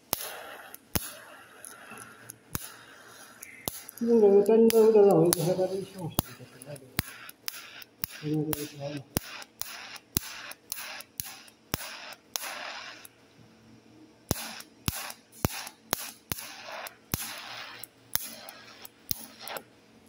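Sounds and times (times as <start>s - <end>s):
short hiss: 0.0s - 13.2s, 14.3s - 19.7s
welding arc crackling: 0.0s - 13.2s, 14.3s - 20.0s.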